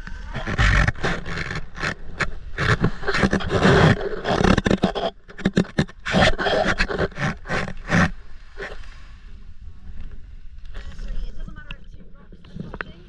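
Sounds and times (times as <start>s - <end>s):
coral rubble knocking and scraping: 0.0s - 8.8s, 10.7s - 13.0s.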